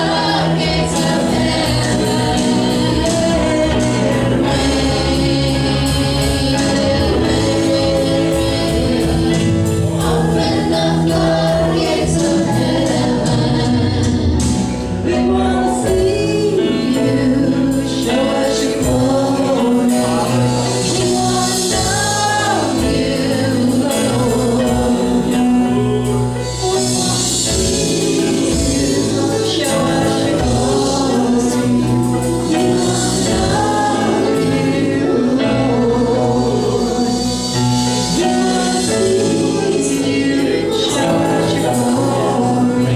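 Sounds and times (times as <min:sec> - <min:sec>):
gospel choir singing: 0:00.0 - 0:42.9
instrumental accompaniment with beat: 0:00.0 - 0:42.9.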